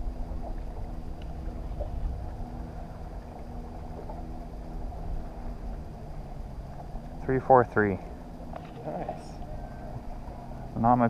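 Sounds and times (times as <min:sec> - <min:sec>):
boat motor hum: 0:00.0 - 0:11.0.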